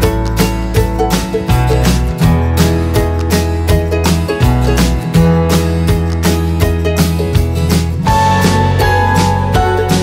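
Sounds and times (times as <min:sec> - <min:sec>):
guitar-led tune with bass and beat: 0:00.0 - 0:10.0.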